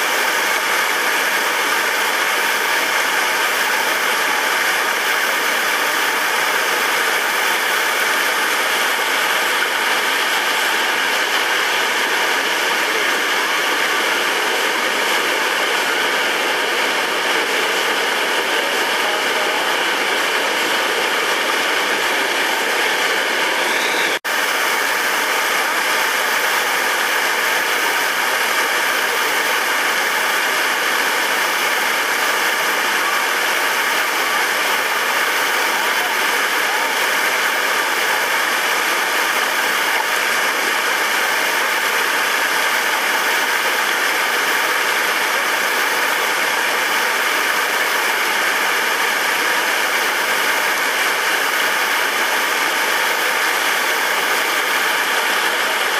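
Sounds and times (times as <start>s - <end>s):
water rushing over rocks: 0.0s - 55.9s.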